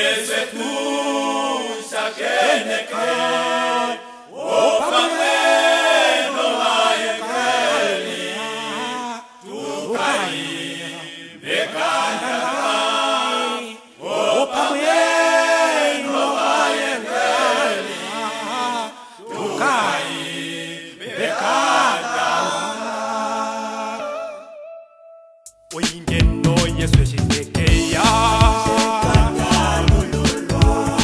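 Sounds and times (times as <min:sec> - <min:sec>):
men singing gospel in harmony: 0:00.0 - 0:24.6, 0:25.7 - 0:31.0.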